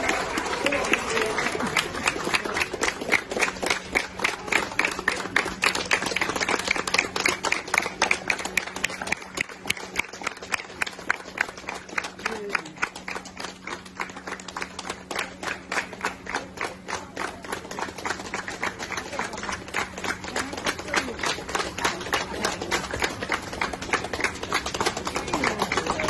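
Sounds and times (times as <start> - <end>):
people clapping in applause: 0.0 - 26.0.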